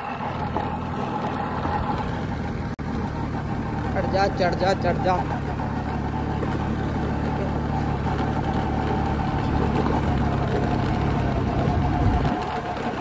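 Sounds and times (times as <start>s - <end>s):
scooter engine running under load: 0.0s - 13.0s.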